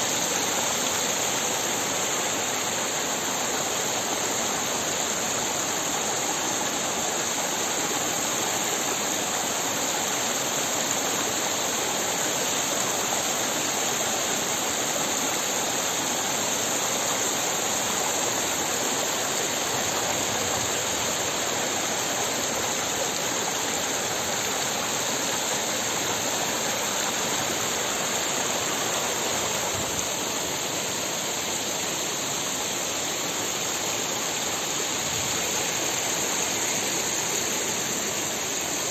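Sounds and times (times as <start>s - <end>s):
stream splashing over stones: 0.0s - 38.9s.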